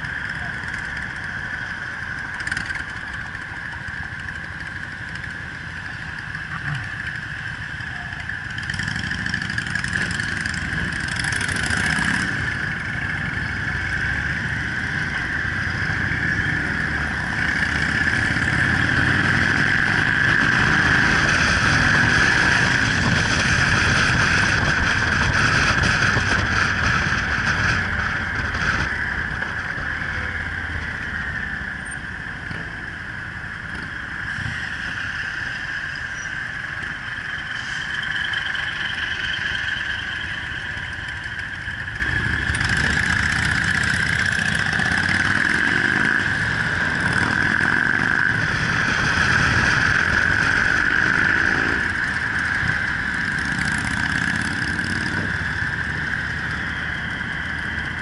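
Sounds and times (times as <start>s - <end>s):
motorcycle engine running: 0.0s - 34.3s, 38.2s - 58.0s
other motorcycles riding: 0.0s - 58.0s
road and wind noise: 0.0s - 58.0s.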